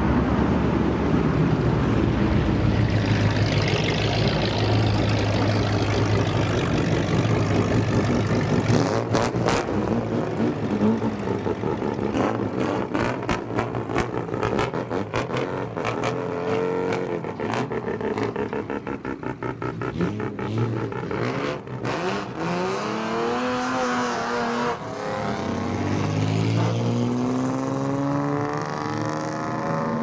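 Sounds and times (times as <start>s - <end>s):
car engines running: 0.0s - 30.0s.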